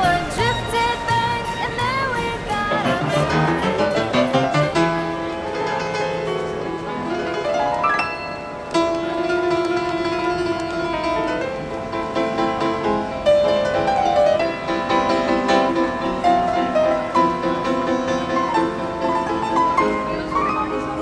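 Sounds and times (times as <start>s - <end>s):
upright piano playing: 0.0s - 21.0s.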